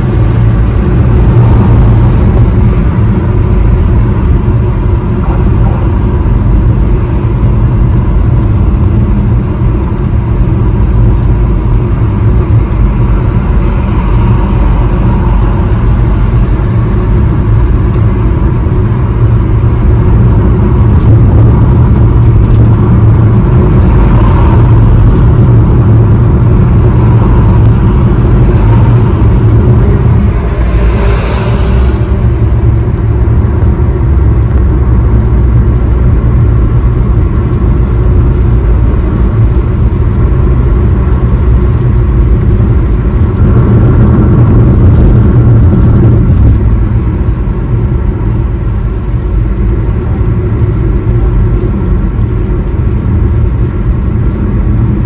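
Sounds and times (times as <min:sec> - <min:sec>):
road and engine rumble inside car: 0:00.0 - 0:55.0.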